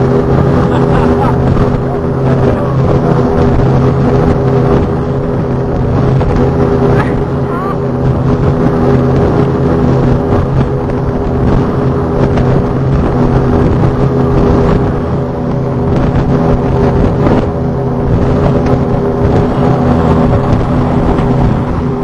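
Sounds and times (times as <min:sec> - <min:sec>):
boat engines droning: 0:00.0 - 0:22.0.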